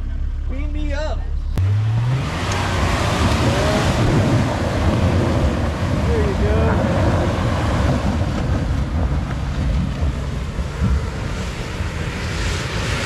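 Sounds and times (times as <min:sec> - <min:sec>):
engine revving high: 0:01.4 - 0:09.0, 0:09.8 - 0:13.0
wind buffeting microphone: 0:02.2 - 0:13.0.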